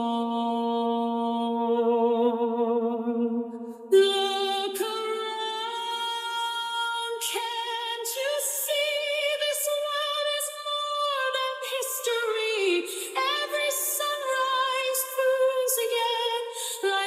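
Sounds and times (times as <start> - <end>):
woman singing wordlessly: 0.0 - 17.0.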